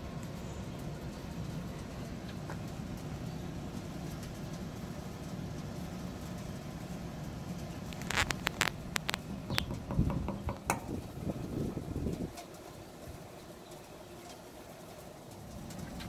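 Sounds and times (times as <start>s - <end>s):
blower fan humming: 0.0s - 16.0s.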